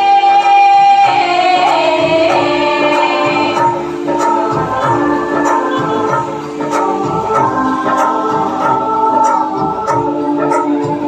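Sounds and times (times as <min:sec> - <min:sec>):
organ-like keyboard chords: 0:00.0 - 0:11.0.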